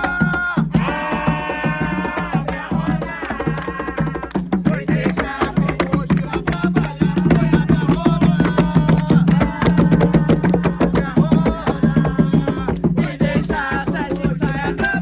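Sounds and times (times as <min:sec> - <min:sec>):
hand drums playing fast rhythm: 0:00.0 - 0:15.0.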